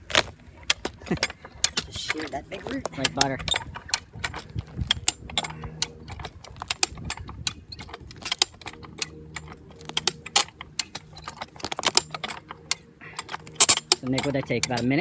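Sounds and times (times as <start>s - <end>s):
chain rattling: 0.0s - 15.0s
farm jack metal clicks and clanks: 0.0s - 15.0s.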